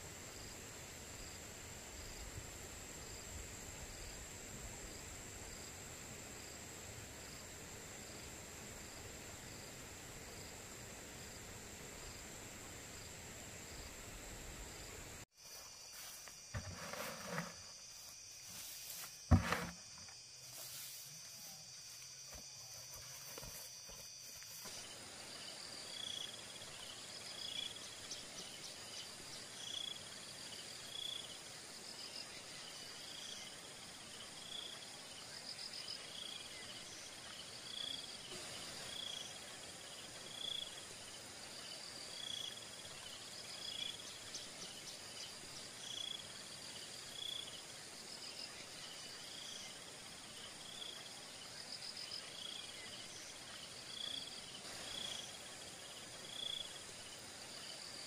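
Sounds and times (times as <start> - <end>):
continuous insect trill: 0.0 - 58.0
insect chirping: 0.0 - 58.0.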